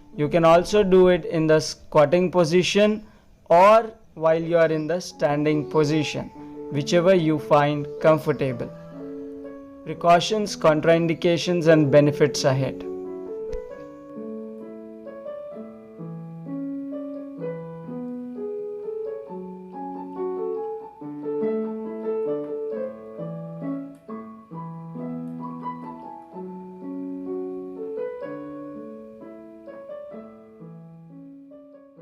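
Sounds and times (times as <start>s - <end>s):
gentle piano melody: 0.0s - 32.0s.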